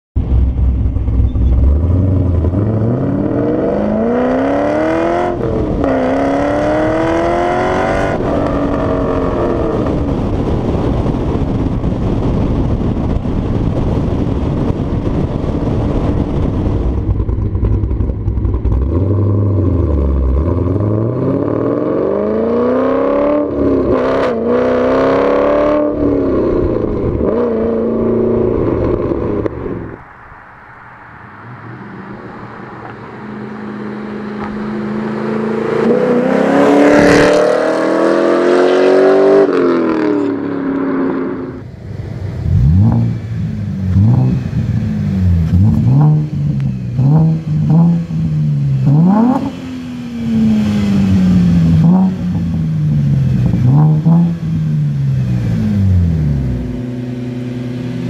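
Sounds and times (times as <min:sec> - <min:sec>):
car engine accelerating hard: 0:00.2 - 0:30.0, 0:31.2 - 0:58.0.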